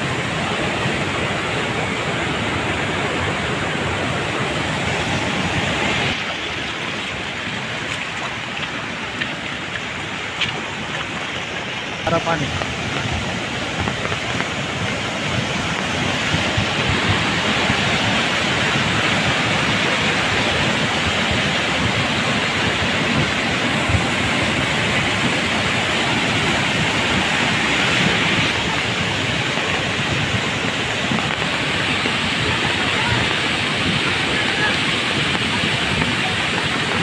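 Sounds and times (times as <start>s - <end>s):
floodwater rushing over rocks: 0.0s - 37.0s.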